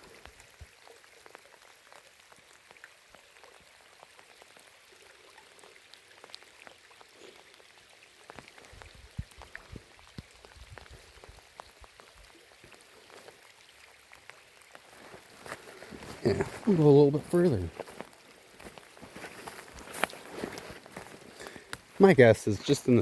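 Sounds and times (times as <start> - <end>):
light rain patter: 0.0 - 23.0.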